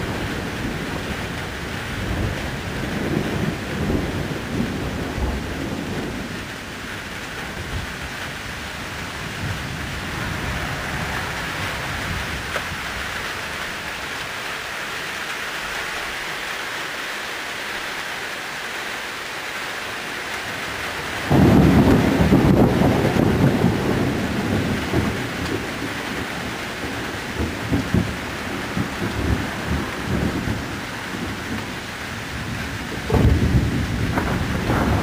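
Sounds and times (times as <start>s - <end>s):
thunder rumbling: 0.0s - 14.4s, 20.4s - 35.0s
steady rain: 0.0s - 35.0s.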